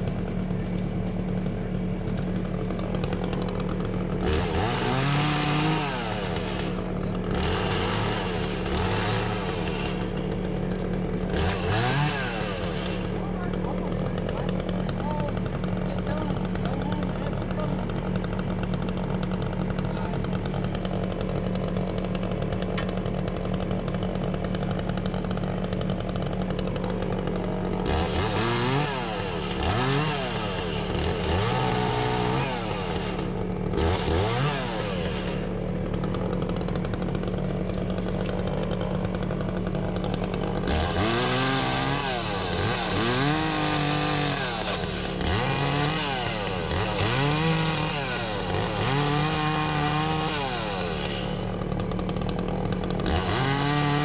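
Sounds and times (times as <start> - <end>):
chainsaw revving: 0.0 - 54.0
steady engine hum: 0.0 - 54.0.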